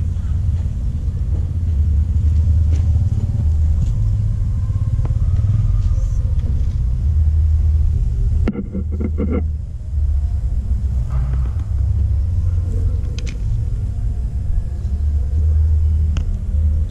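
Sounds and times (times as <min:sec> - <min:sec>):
continuous low rumble: 0:00.0 - 0:16.9.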